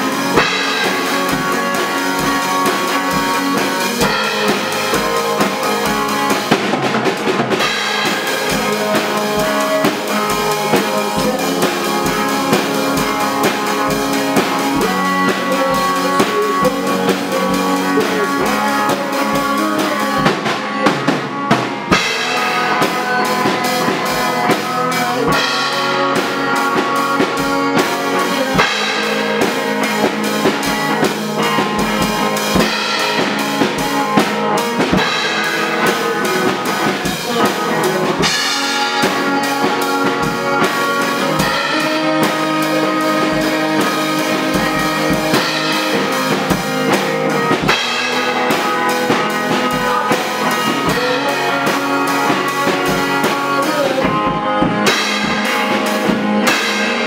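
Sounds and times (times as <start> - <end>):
drum kit beat: 0.0 - 57.0
person singing into microphone: 0.0 - 57.0.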